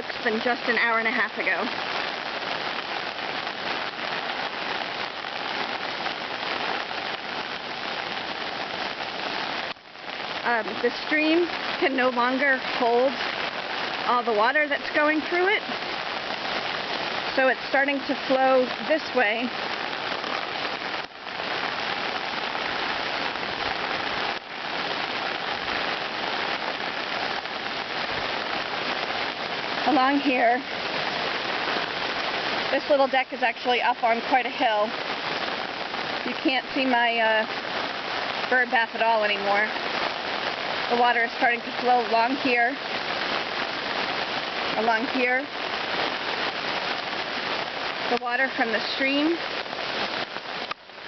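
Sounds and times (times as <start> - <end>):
flooded stream rushing: 0.0 - 51.0
steady rain falling: 0.0 - 51.0.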